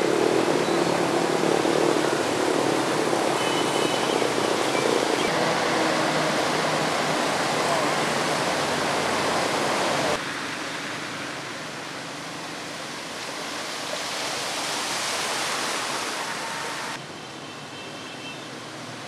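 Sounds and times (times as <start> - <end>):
vehicles splashing through water: 0.0 - 17.1.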